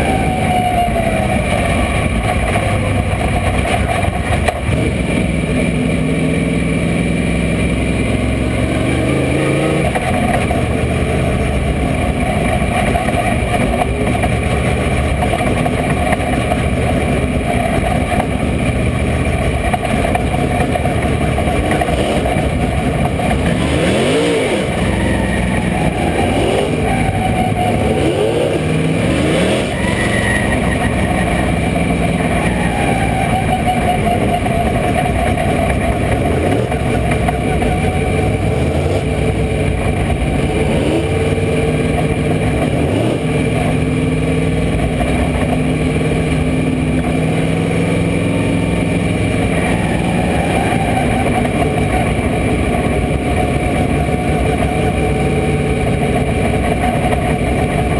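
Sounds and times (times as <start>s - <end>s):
other race car engines: 0.0s - 57.9s
race car engine revving: 0.0s - 57.9s.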